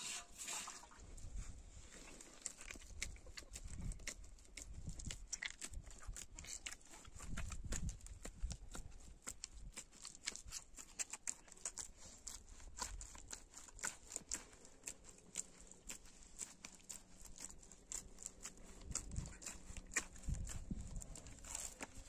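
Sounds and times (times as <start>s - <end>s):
hands kneading dough in steel bowl: 0.0s - 22.0s.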